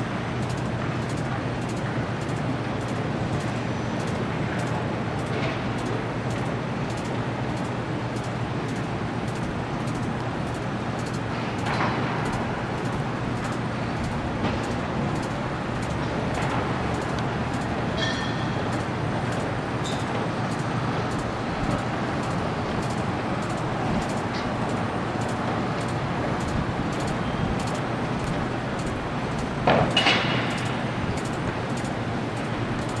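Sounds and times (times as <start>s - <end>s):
city traffic: 0.0s - 33.0s
machinery noise: 0.0s - 33.0s.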